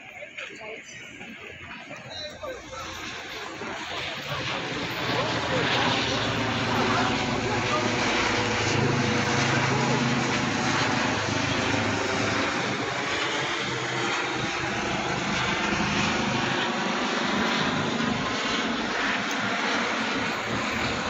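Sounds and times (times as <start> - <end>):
city street noise: 0.0 - 21.0.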